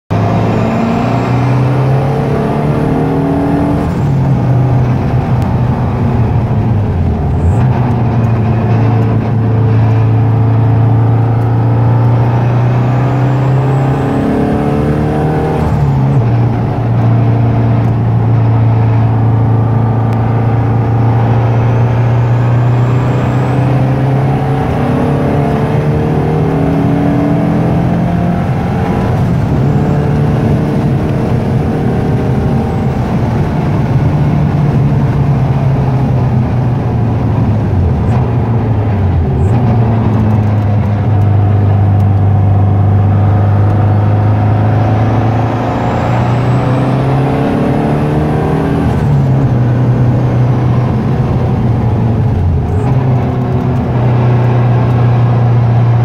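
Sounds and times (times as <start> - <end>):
car engine running hard: 0.1 - 56.0.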